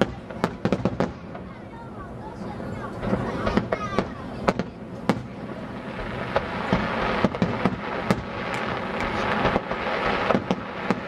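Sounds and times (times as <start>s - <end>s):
fireworks bangs: 0.0s - 11.0s
fireworks hissing and crackling: 0.0s - 11.0s.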